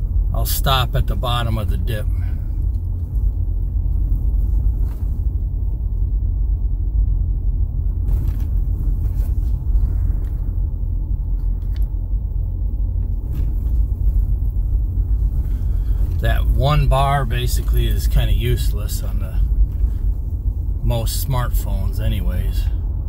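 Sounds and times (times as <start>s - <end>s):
truck engine and tyres rumbling: 0.0s - 23.0s.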